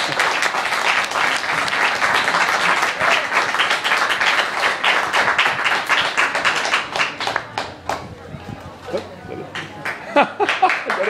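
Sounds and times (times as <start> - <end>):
audience applauding: 0.0 - 8.0, 9.5 - 11.0.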